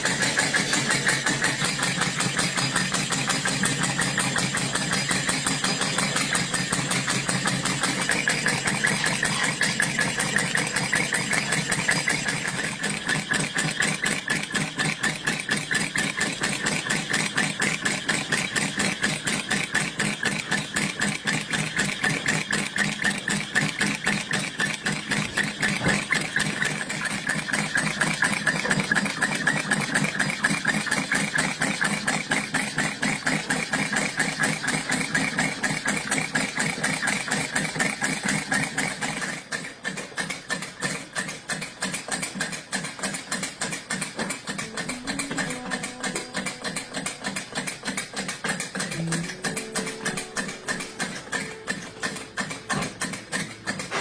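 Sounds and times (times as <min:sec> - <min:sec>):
model steam engine beating: 0:00.0 - 0:54.0.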